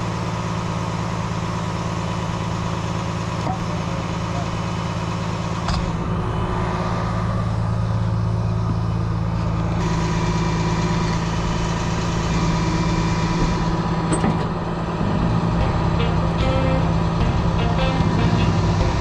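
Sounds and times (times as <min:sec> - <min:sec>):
heavy truck engine idling: 0:00.0 - 0:19.0.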